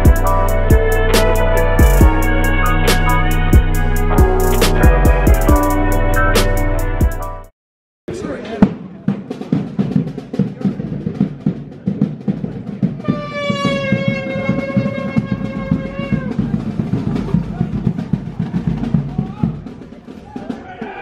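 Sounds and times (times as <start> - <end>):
drums beating: 0.0 - 7.5, 8.1 - 21.0.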